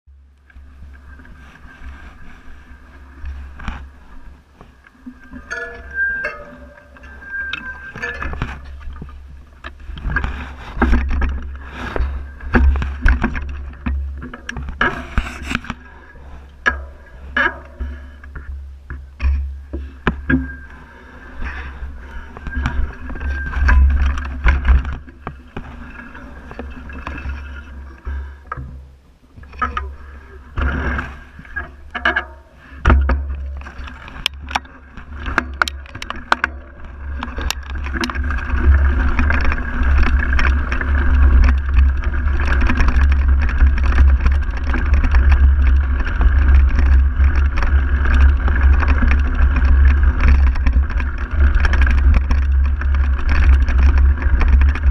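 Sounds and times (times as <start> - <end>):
bike rattling and knocking: 4.6 - 30.0, 30.6 - 54.9.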